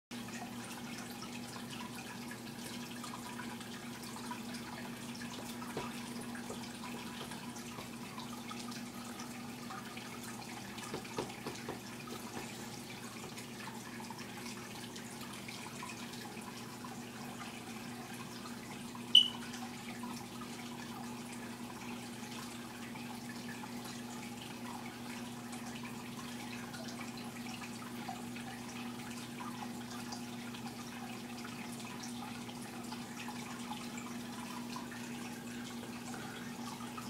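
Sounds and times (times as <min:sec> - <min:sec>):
aquarium water trickling: 0:00.1 - 0:37.0.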